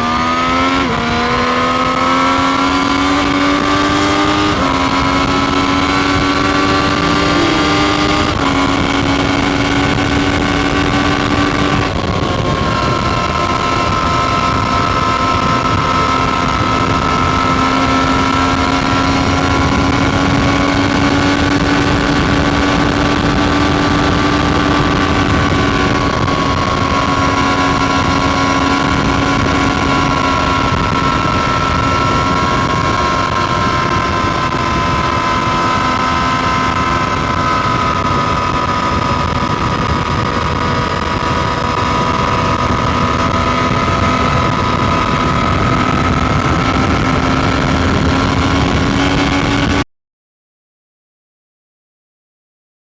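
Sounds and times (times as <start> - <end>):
motorcycle engine running: 0.0 - 49.8.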